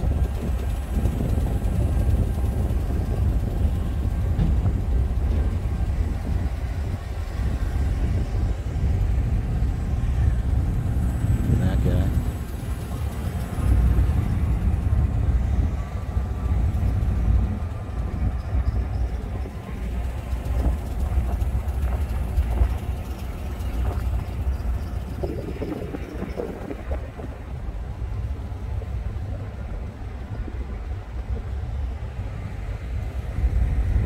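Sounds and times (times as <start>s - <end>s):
car driving slowly: 0.0s - 34.0s.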